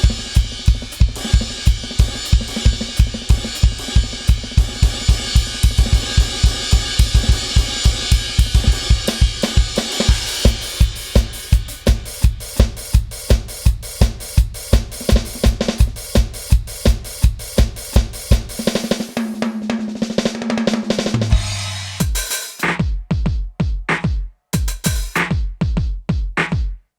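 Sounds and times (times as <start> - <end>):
electronic drum kit groove: 0.0 - 26.8.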